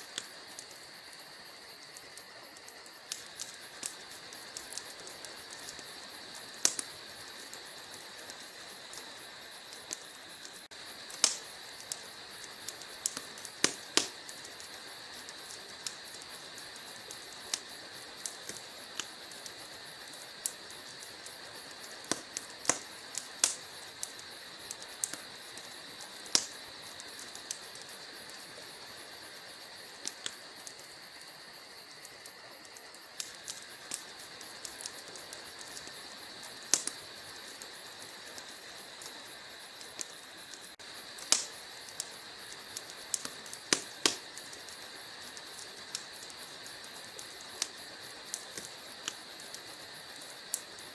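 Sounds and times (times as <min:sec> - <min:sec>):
wood fire hissing and crackling: 0:00.0 - 0:50.9.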